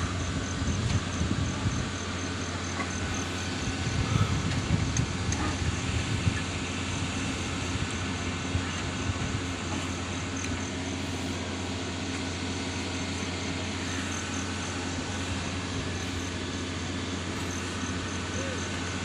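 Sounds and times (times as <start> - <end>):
heavy machinery droning: 0.0 - 19.0.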